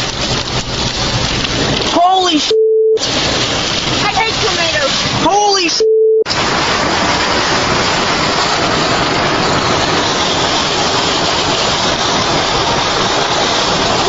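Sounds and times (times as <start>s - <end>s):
car wind and road noise: 0.0s - 14.0s.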